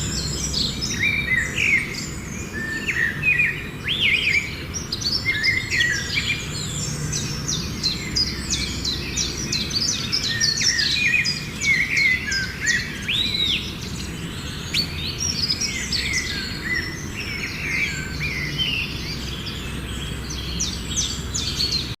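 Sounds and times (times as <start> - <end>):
birds chirping in chorus: 0.0 - 22.0.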